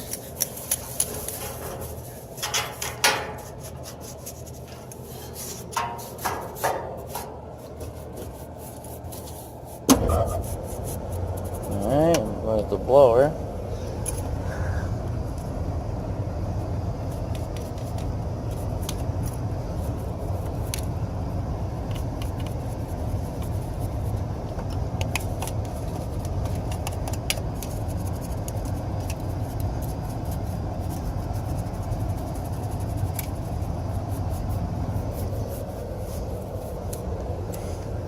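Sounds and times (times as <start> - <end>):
hvac unit low rumble: 0.0 - 38.0.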